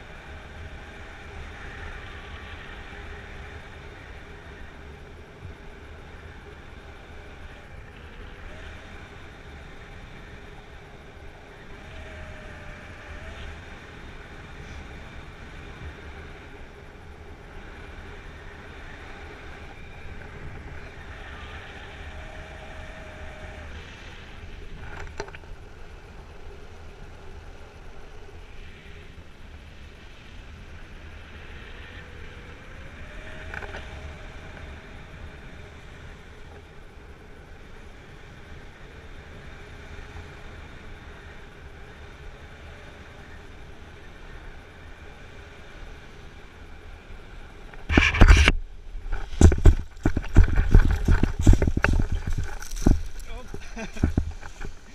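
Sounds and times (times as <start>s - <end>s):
wind rushing on microphone: 0.0s - 54.9s.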